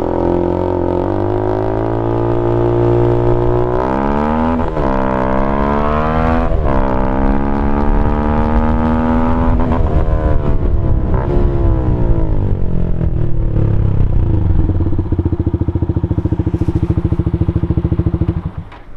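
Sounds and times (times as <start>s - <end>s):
motorcycle accelerating: 0.0s - 18.9s.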